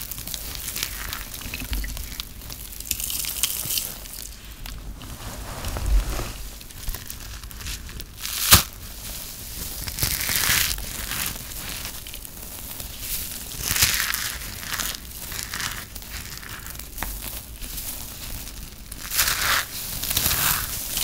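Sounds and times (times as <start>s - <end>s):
soap shavings crunching: 0.0s - 4.6s, 6.8s - 21.0s.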